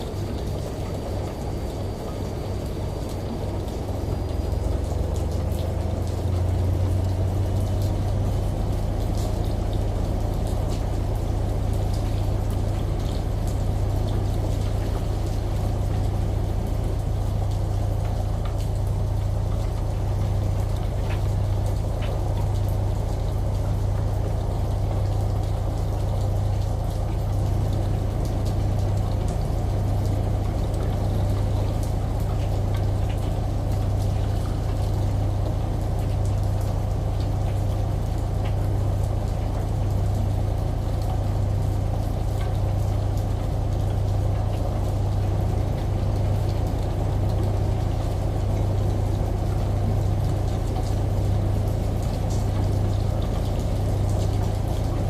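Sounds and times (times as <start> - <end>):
faint rain patters: 0.0 - 55.0
rushing water: 0.0 - 55.0
washing machine hum: 0.0 - 55.0.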